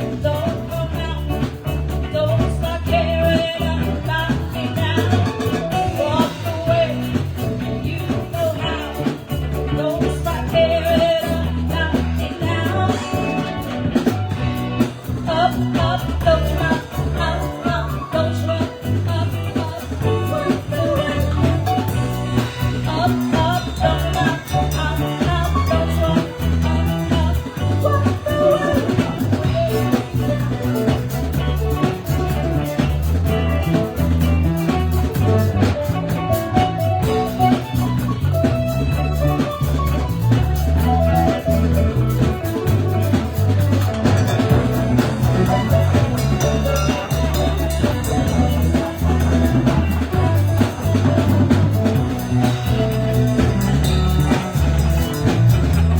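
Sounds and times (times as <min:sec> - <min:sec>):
live band playing: 0:00.0 - 0:55.9
person singing: 0:00.0 - 0:55.9.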